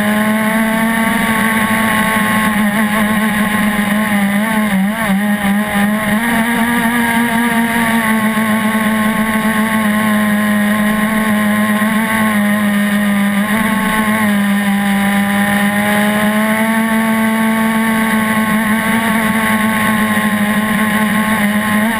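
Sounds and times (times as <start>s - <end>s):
model boat engine running: 0.0s - 21.9s.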